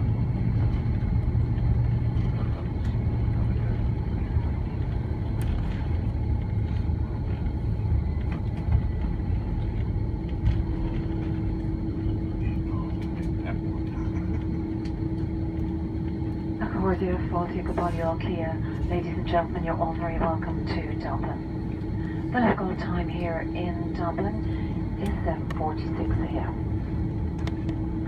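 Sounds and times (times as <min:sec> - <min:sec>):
low rumble of engines and wheels: 0:00.0 - 0:28.0
steady hum: 0:00.0 - 0:28.0.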